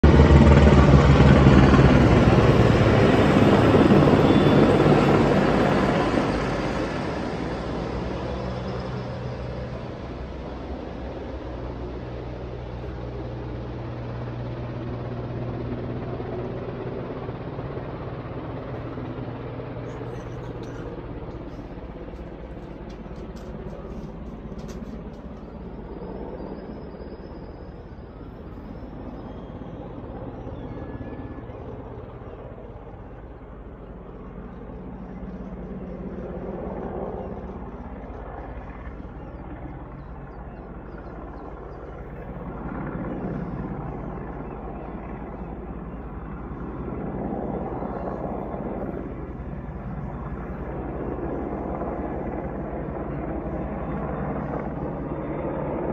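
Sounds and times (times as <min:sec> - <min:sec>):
helicopter rotor drone: 0:00.0 - 0:55.9.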